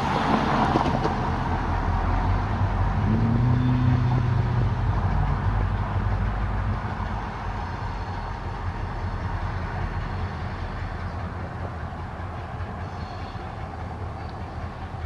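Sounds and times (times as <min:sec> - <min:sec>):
diesel locomotive running: 0:00.0 - 0:15.0.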